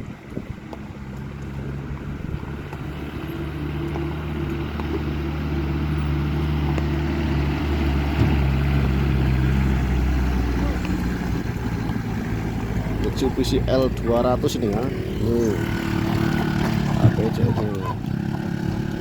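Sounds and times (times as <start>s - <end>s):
truck engine pulling hard: 0.0s - 19.0s.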